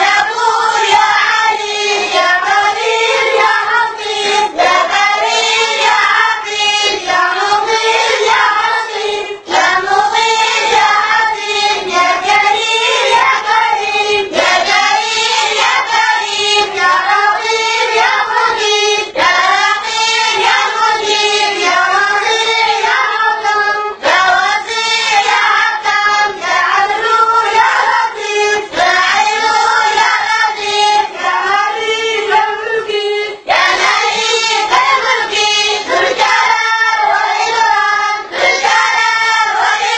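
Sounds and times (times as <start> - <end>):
children singing in chorus: 0.0 - 39.9.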